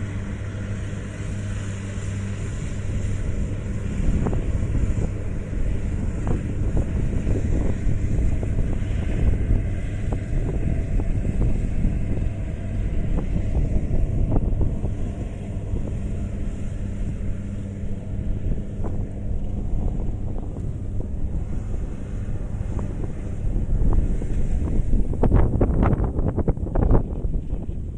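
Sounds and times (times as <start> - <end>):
combine harvester diesel engine: 0.0 - 27.9
wind buffeting microphone: 0.0 - 27.9.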